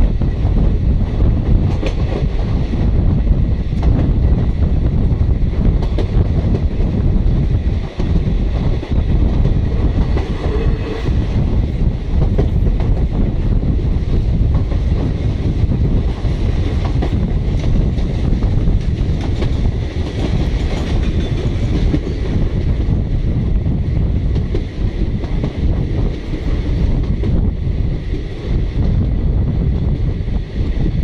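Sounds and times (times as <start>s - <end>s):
train coach rumble: 0.0s - 31.0s.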